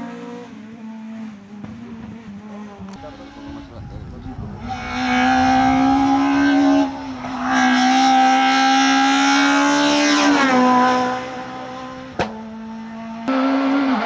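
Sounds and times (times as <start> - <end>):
rally car engine revving past: 0.0 - 14.0.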